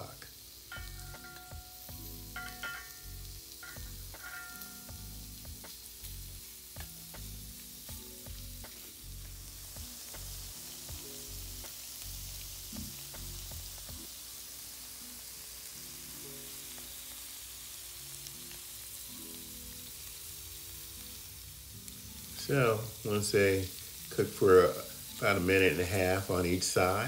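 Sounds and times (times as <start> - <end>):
background music: 0.0 - 27.0
shrimp sizzling in oil: 0.0 - 27.0.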